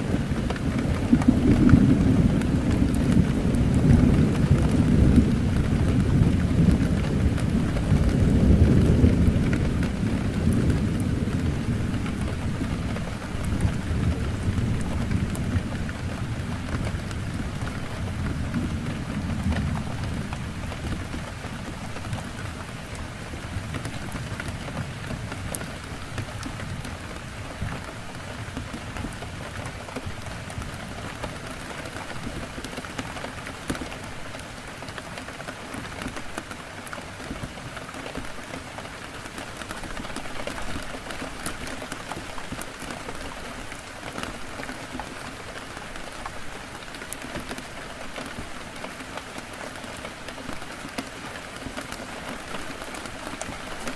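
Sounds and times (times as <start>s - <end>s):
heavy rain on a window: 0.0s - 53.9s
rain drop clicks: 0.0s - 53.9s.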